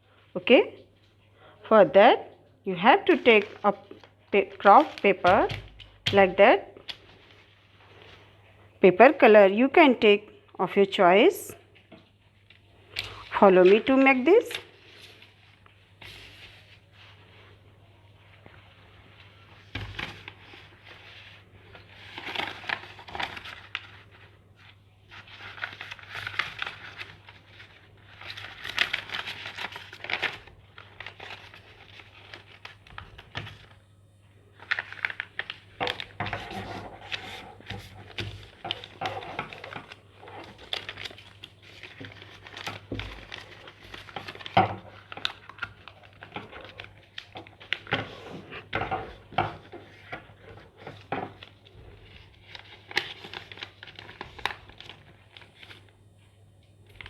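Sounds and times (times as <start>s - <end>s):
paper rustling and crinkling: 3.0s - 8.6s, 11.8s - 17.6s, 18.2s - 33.8s, 34.5s - 56.0s.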